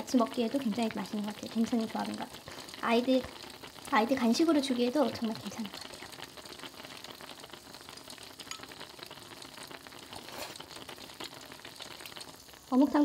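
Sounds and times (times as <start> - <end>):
faint crackling and sizzling: 0.0 - 13.0.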